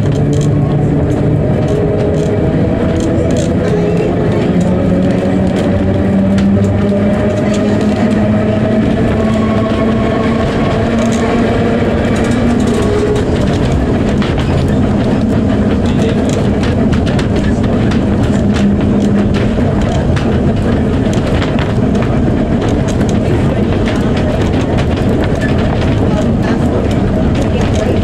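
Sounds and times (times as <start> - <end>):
tram motor hum: 0.0 - 28.0
wheels clicking over rail joints: 0.0 - 28.0.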